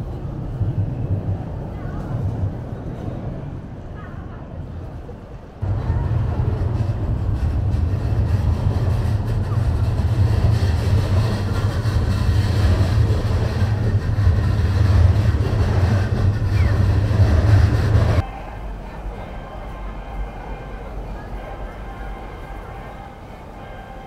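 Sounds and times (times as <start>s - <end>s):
street traffic: 0.0s - 24.0s
train rumbling overhead: 0.0s - 24.0s.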